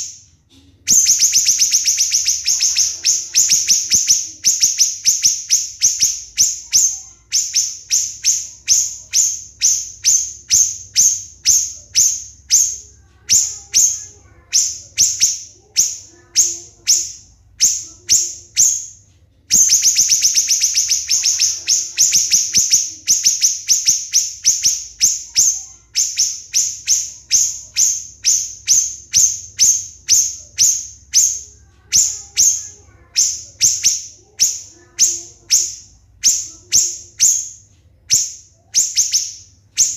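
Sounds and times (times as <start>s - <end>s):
bird calling high sharp notes: 0.9s - 39.9s.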